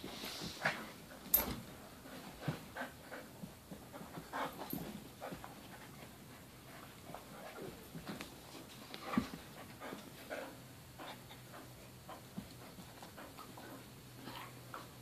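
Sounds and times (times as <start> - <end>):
dogs panting: 0.3 - 15.0.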